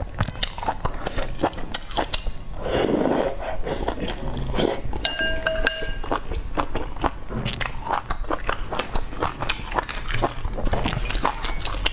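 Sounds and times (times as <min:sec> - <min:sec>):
close chewing with mouth smacks: 0:00.0 - 0:05.0, 0:06.0 - 0:11.9.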